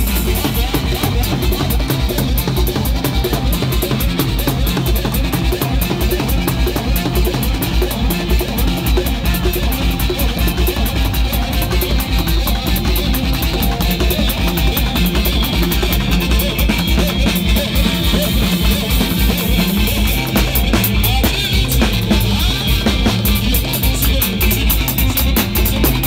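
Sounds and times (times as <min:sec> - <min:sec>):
drum kit with cymbals: 0:00.0 - 0:26.0
electric bass guitar: 0:00.0 - 0:26.0
electronic keyboards: 0:00.0 - 0:26.0.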